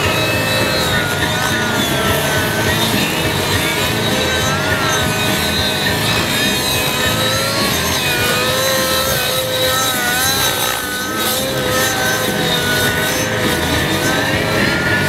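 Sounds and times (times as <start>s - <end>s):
model helicopter engine whine: 0.0s - 15.0s.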